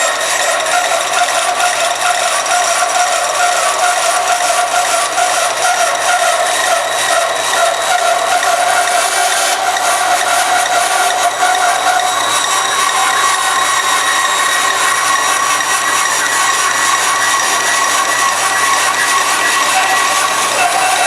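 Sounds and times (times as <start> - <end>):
bandsaw cutting plastic with whine: 0.0 - 21.0.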